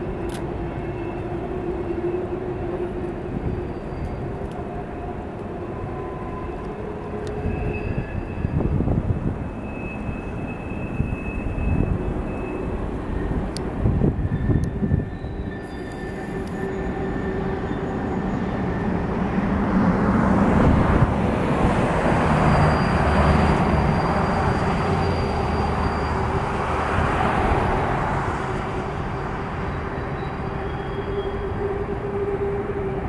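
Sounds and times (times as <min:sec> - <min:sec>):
high wheel squeals: 0:00.0 - 0:19.6, 0:21.5 - 0:33.0
train wheels rumbling on rail: 0:00.0 - 0:33.0.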